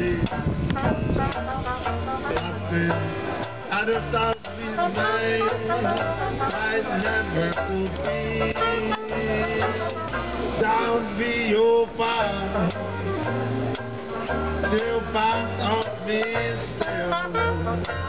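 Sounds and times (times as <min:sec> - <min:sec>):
banjo strumming: 0:00.0 - 0:18.0
plucked double bass: 0:00.0 - 0:18.0
clarinet melody: 0:00.1 - 0:18.0.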